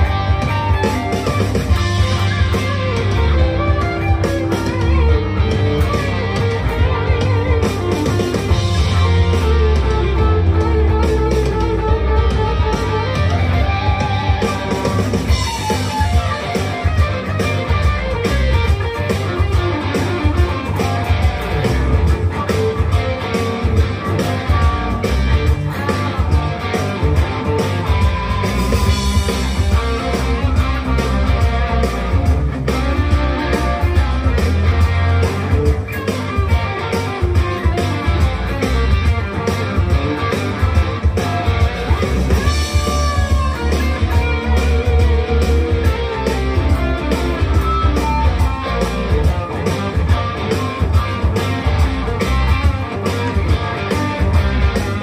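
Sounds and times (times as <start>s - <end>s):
electric guitar through amplifier: 0.0s - 55.0s.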